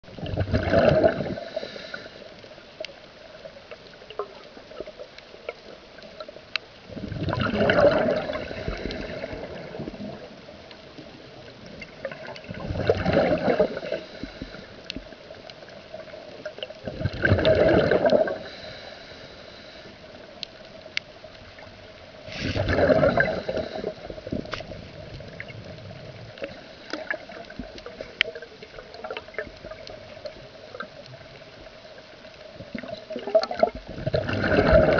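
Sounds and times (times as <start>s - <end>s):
underwater exhaled bubbles: 0.0s - 34.9s
faint hum: 0.5s - 33.2s.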